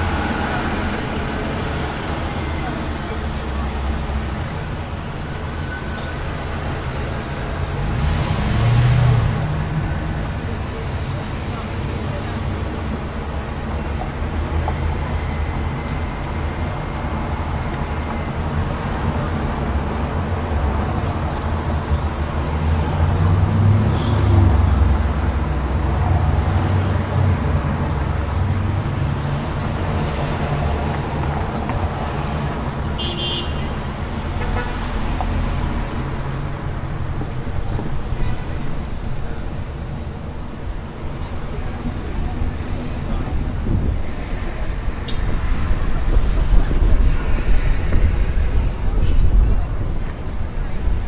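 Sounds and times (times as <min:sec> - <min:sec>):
heavy vehicle rumble: 0:00.0 - 0:51.0
street traffic: 0:00.0 - 0:51.0.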